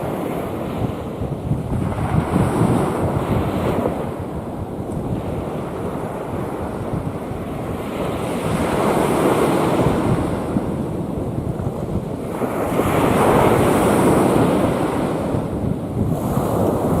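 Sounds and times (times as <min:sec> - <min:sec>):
rough sea waves breaking: 0:00.0 - 0:17.0
wind buffeting microphone: 0:00.0 - 0:17.0.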